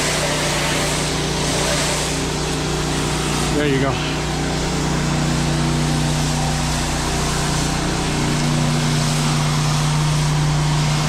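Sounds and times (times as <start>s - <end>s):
pressure washer engine drone: 0.0s - 11.0s
water spray hissing: 0.0s - 11.0s.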